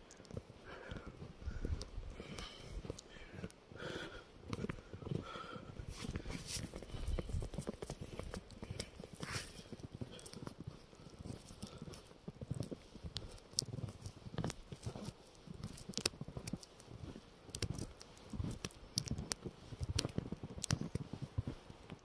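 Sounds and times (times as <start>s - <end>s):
footsteps crunching through snow: 0.3s - 22.0s.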